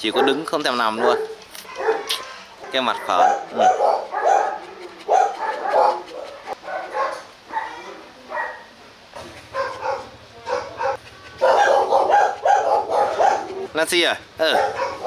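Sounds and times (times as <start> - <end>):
dog barking: 0.0 - 8.7, 9.5 - 13.7, 14.4 - 15.0.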